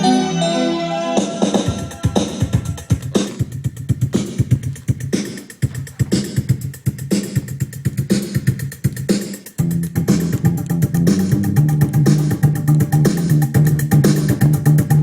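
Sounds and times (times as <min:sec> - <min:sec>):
music with drum beat on radio: 0:00.0 - 0:15.0.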